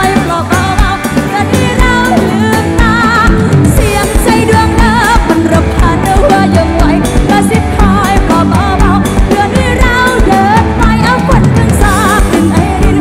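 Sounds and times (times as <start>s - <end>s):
live band music: 0.0s - 13.0s
person singing: 0.0s - 13.0s
steady drum beat: 0.0s - 13.0s.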